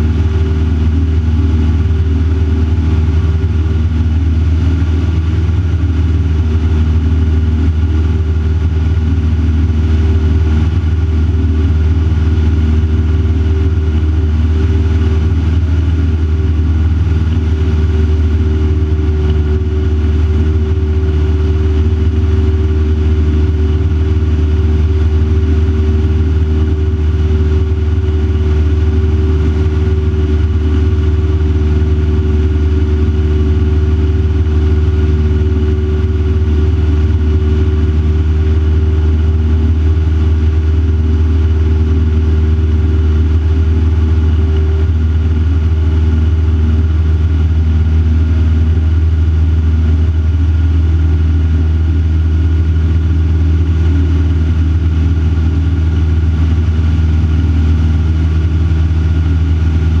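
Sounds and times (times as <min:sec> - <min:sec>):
aircraft engine and propeller droning: 0:00.0 - 1:00.0.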